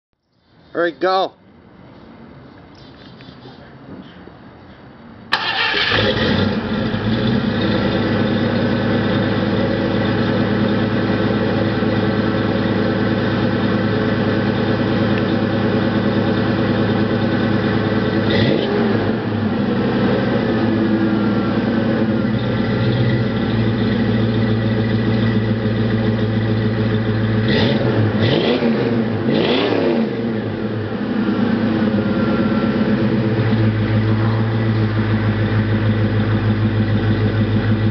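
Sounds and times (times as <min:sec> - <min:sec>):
car engine idling and revving: 0:05.2 - 0:37.9
car engine starting: 0:05.3 - 0:37.9.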